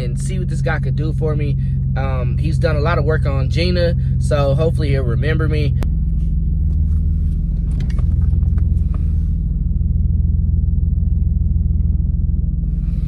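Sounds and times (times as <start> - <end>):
car engine running with exhaust leak: 0.0 - 13.0.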